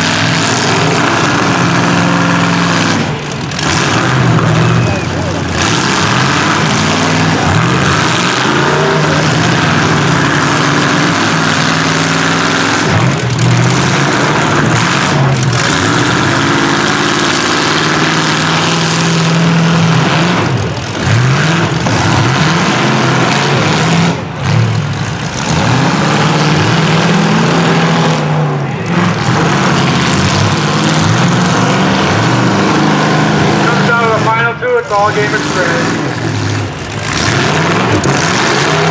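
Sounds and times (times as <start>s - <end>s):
vehicle engines revving: 0.0s - 38.9s.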